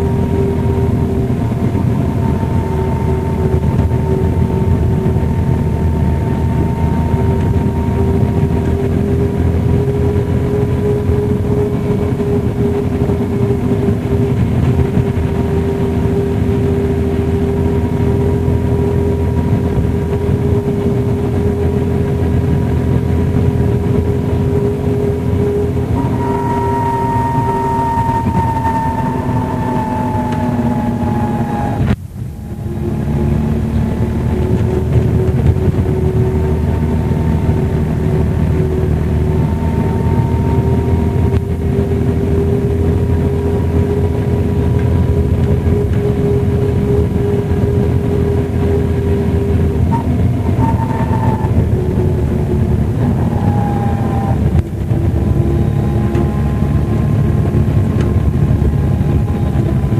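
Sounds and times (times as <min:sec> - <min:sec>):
bus diesel engine: 0:00.0 - 0:59.9
steady whine: 0:00.0 - 0:59.9.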